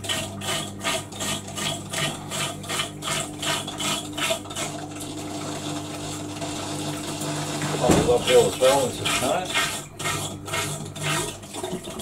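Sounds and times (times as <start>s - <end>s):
water pump motor humming: 0.0s - 12.0s.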